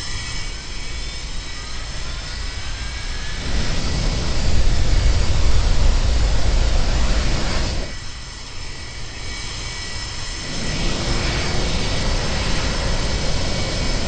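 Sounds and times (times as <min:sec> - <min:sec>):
jet engines whining: 0:00.0 - 0:14.0.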